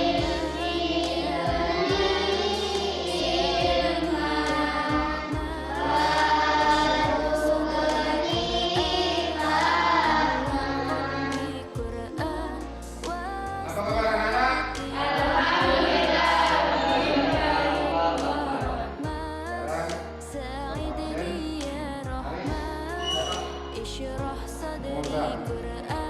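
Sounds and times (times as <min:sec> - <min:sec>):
children singing in unison: 0:00.0 - 0:20.2, 0:22.2 - 0:23.8.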